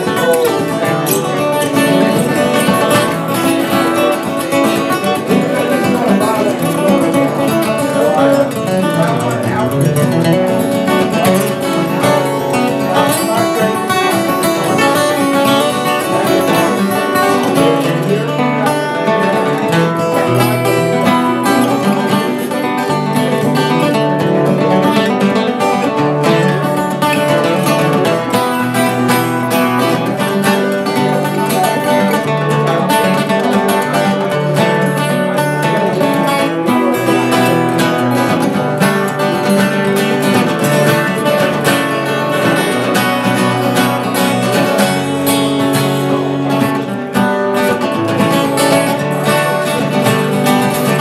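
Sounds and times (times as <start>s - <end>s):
plucked acoustic guitar: 0.0s - 51.0s.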